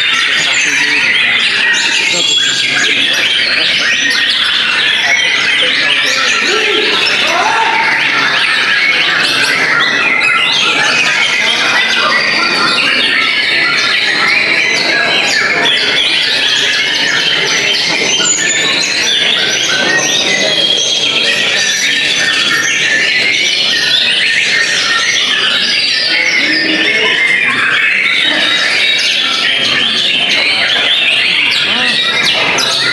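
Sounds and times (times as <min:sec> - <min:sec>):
songbirds singing in chorus: 0:00.0 - 0:32.9.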